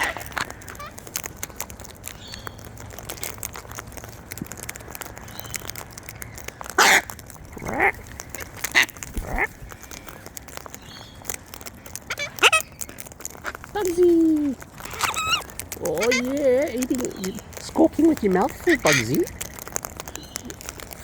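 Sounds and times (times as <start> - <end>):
cockatoos squawking: 0.0 - 4.0, 4.7 - 21.0
birds pecking at seed: 0.0 - 21.0.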